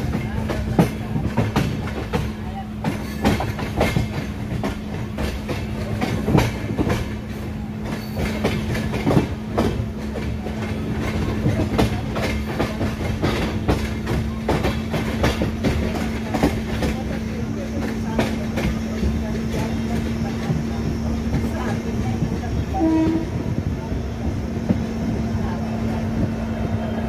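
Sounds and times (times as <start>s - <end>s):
train rumble and hum: 0.0s - 27.0s
wheels clacking on track: 0.0s - 27.0s.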